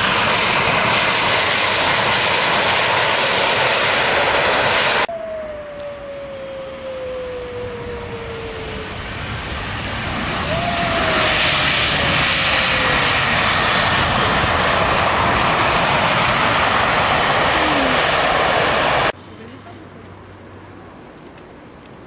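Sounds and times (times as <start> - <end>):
engine whine sliding down: 0.0 - 19.1
airliner engine noise: 0.0 - 19.2.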